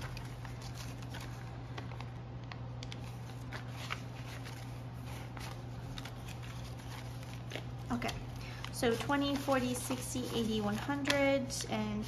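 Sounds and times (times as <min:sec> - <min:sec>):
banknotes rustling: 0:00.0 - 0:12.0
steady low hum: 0:00.0 - 0:12.0.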